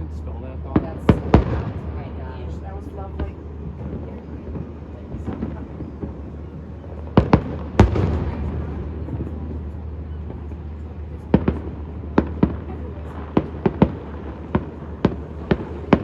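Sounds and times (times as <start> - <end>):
steady low hum: 0.0 - 16.0
fireworks bursting: 0.7 - 16.0.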